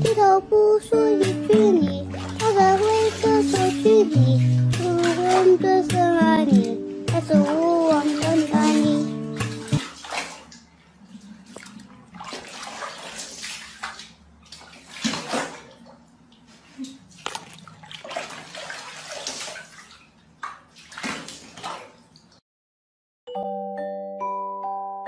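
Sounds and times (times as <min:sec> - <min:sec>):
water splashing and running: 0:01.2 - 0:22.4.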